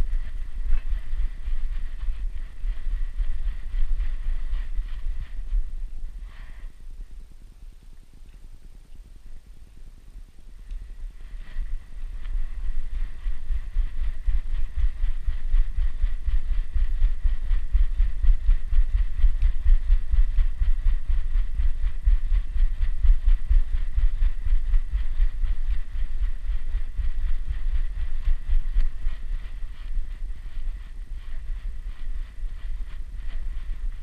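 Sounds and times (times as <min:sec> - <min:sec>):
camera jostling rumble: 0:00.0 - 0:07.1, 0:10.3 - 0:34.0.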